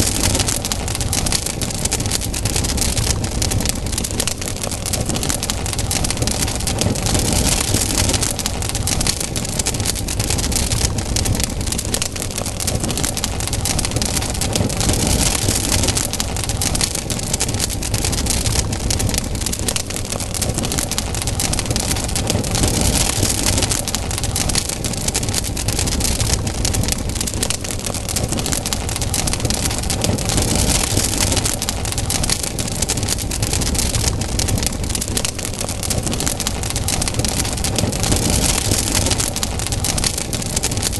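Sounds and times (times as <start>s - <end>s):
campfire crackling and popping: 0.0s - 40.9s
low rumble of flame: 0.0s - 40.9s.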